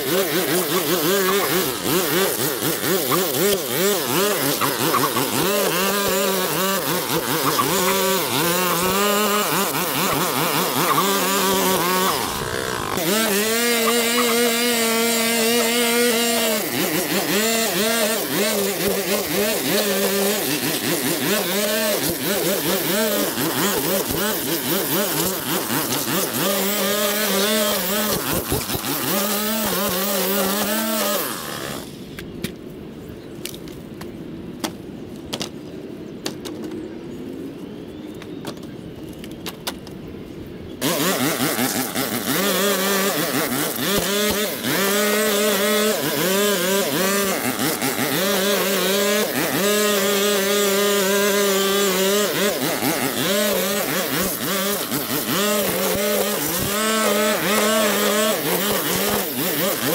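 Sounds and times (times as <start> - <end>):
small petrol engine running: 0.0 - 32.1, 40.8 - 59.9.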